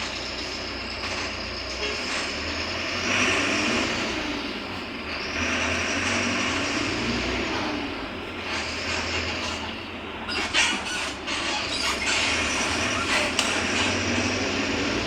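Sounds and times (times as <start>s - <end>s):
bus diesel engine driving: 0.0s - 15.0s.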